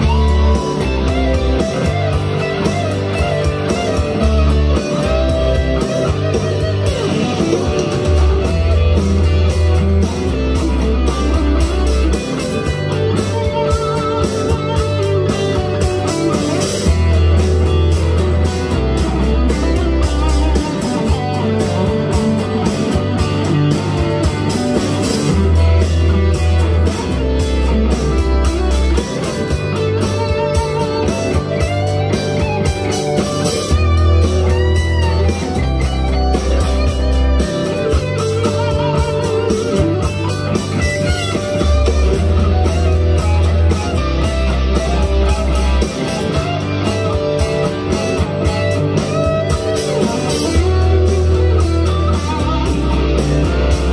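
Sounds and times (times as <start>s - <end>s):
backing track with bass and drums: 0.0s - 53.9s
electric guitar through amp: 0.0s - 53.9s.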